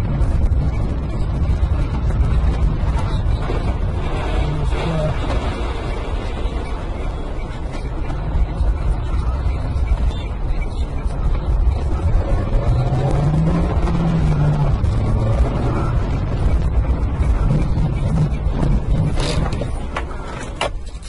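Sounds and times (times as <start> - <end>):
car engine: 0.0 - 21.0
road noise inside car: 0.0 - 21.0.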